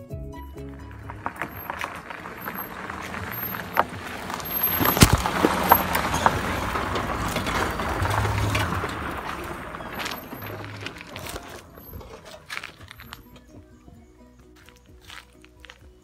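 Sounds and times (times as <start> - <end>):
low engine hum: 0.0 - 16.0
tyres crunching on gravel: 0.4 - 16.0.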